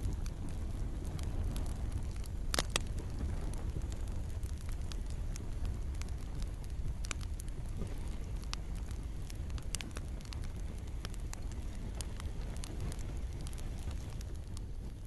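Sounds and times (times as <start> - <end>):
campfire crackling: 0.0 - 15.0
gentle rain falling: 0.0 - 15.0.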